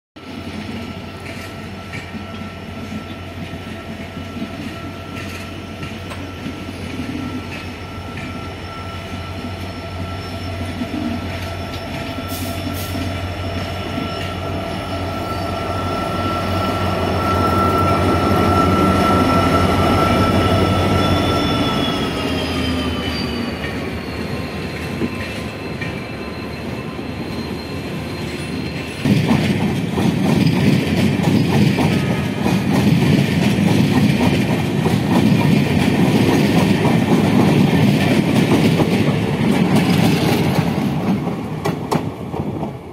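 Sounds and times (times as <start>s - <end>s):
locomotive engine drone and whine: 0.2s - 42.9s.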